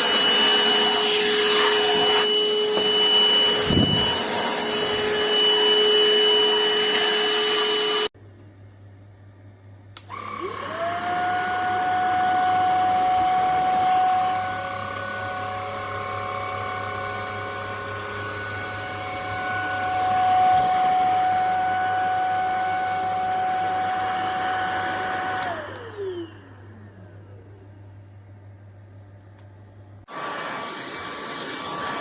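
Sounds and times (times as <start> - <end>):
vacuum cleaner motor whine: 0.0 - 8.1, 10.0 - 27.8, 30.1 - 32.0.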